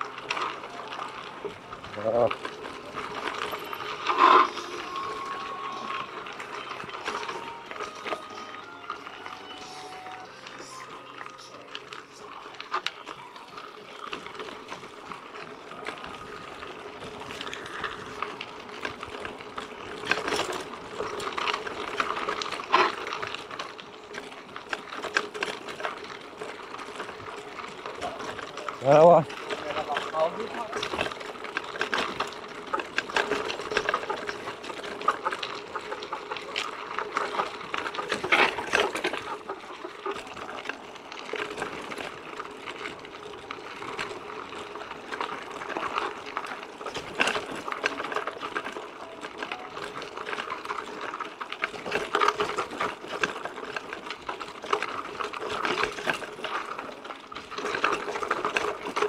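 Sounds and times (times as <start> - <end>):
mountain bike rattling on rough track: 0.0 - 59.0.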